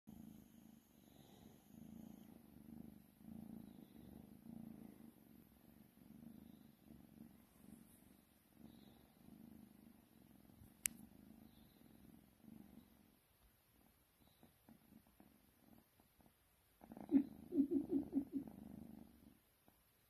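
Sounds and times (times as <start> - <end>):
kitten purring: 0.1 - 20.0.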